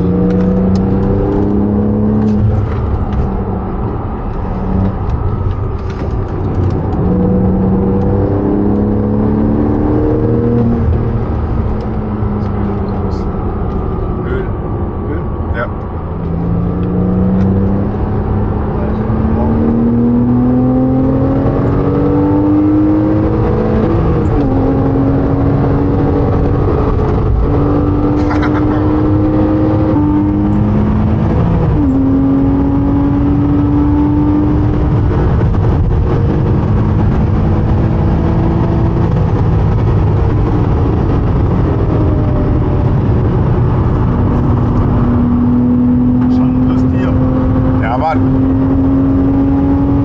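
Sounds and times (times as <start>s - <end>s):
car engine accelerating through gears: 0.0s - 50.0s.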